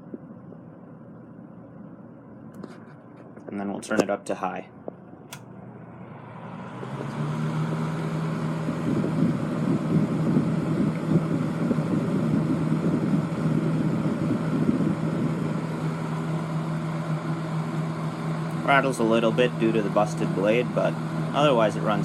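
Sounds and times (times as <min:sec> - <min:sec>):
box fan running: 0:00.0 - 0:22.0.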